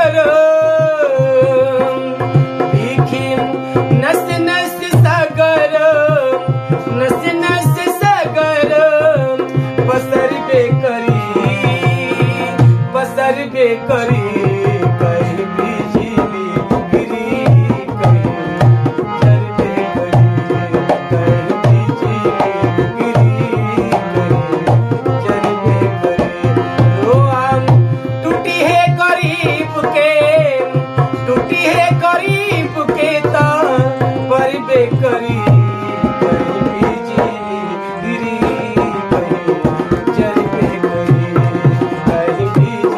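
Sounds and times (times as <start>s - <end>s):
dholak drum rhythm: 0.0s - 42.9s
harmonium melody: 0.0s - 42.9s.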